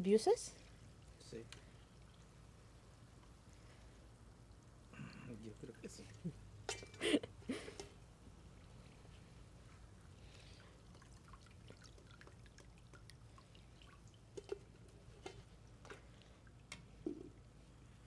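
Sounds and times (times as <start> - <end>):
faint crackles and ticks: 0.0 - 18.0.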